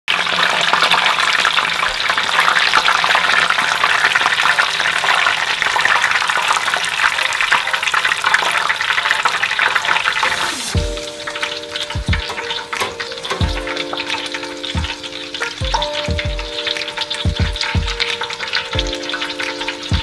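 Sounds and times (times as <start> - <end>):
shrimp deep-frying in hot oil: 0.1 - 20.0.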